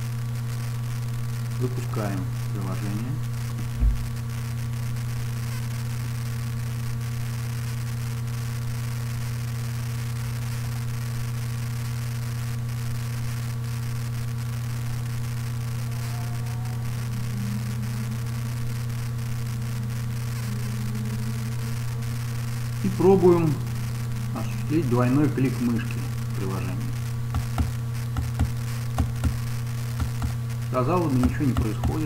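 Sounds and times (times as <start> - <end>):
faint radio static crackle: 0.0 - 32.0
steady electrical hum: 0.0 - 32.0.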